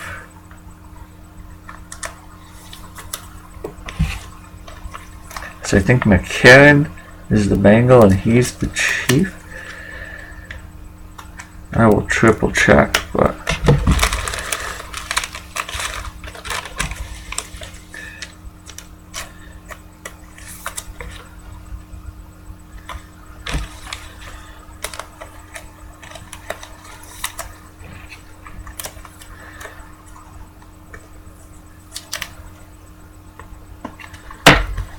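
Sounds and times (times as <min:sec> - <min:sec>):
low electrical hum: 0:00.0 - 0:34.9.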